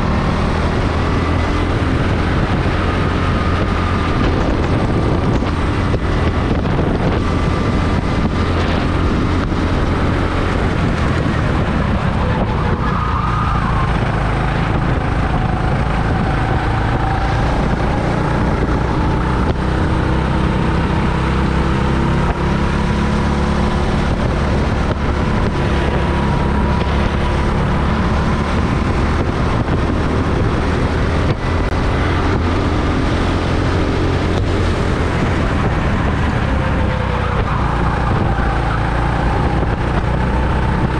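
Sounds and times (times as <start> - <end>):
go-kart engine drone: 0.0 - 40.9
rushing noise: 0.0 - 40.9.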